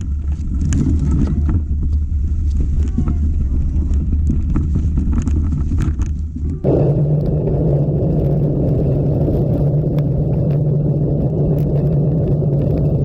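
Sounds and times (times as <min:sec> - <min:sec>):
bike tyre noise: 0:00.0 - 0:13.0
wind buffeting microphone: 0:00.0 - 0:13.0.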